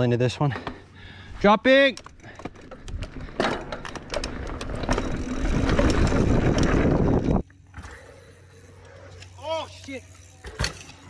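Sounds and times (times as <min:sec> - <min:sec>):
bike tyres on dirt: 0:00.8 - 0:11.0
bike rattling over bumps: 0:01.8 - 0:11.0.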